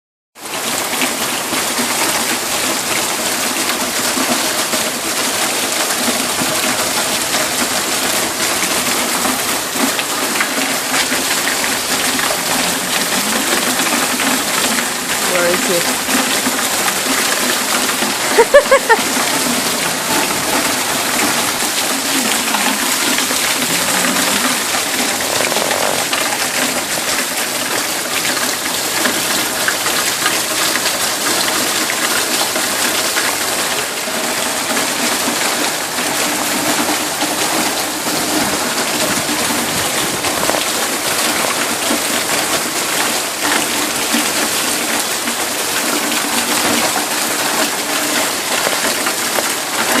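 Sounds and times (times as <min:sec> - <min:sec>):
heavy rain pouring: 0:00.4 - 0:50.0.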